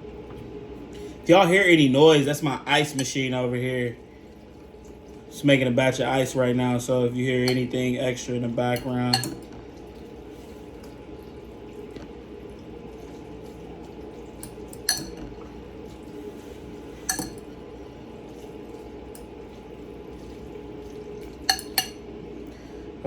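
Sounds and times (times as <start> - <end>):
ice machine humming: 1.0 - 23.0
water moving: 2.7 - 22.8.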